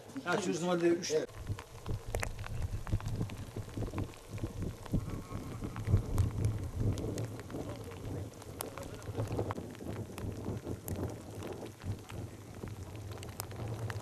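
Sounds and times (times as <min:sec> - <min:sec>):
small irregular clicks: 0:00.8 - 0:14.0
low rumble: 0:01.3 - 0:14.0.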